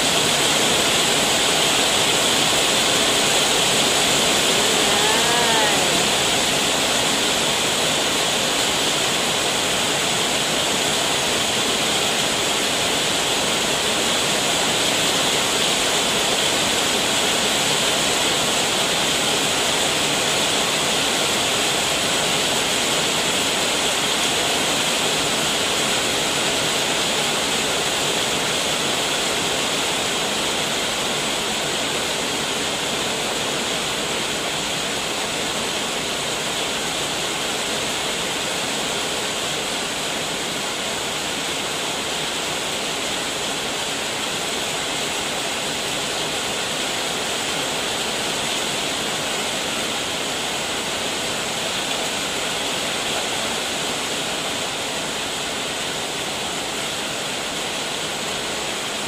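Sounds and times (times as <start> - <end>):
heavy rain on roof: 0.0 - 59.0.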